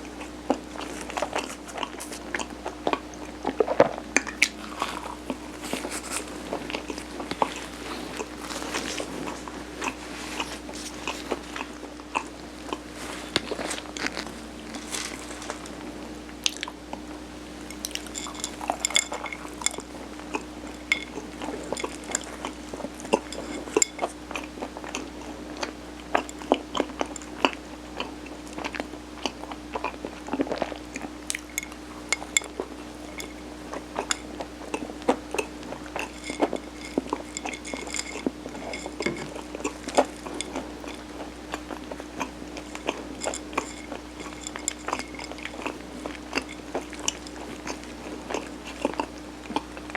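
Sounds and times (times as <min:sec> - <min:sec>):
chewing sticky rice cake: 0:00.0 - 0:49.9
steady faint hum: 0:00.0 - 0:49.9.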